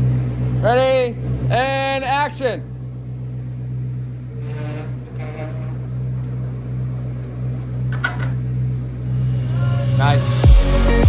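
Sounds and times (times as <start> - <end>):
low mechanical hum: 0.0 - 10.5.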